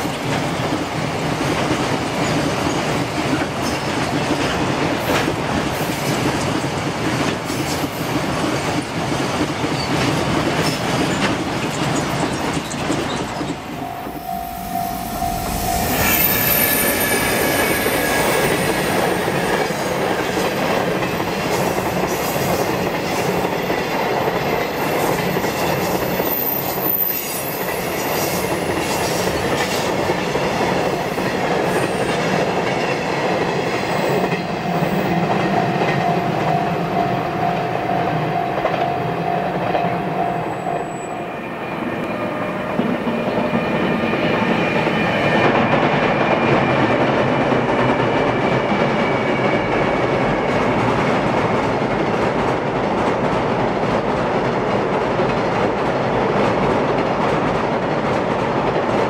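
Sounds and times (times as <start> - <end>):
train wheels rumbling and clattering: 0.0 - 13.9, 14.8 - 59.0
train crossing steel bridge: 0.0 - 59.0.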